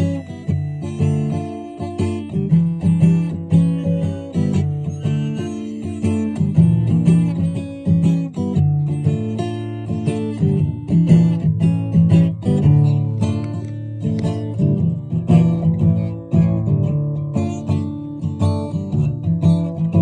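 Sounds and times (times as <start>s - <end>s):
acoustic guitar plucking and strumming: 0.0s - 20.0s.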